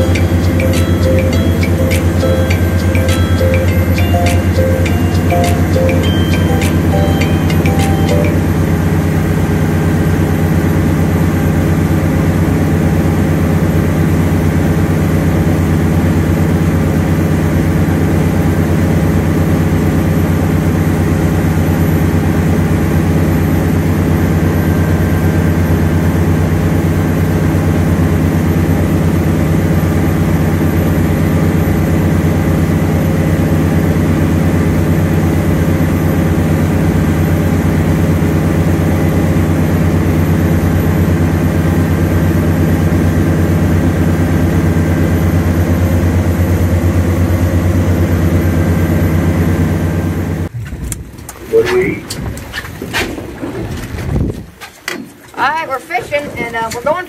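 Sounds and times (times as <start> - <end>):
boat engine humming: 0.0 - 57.0.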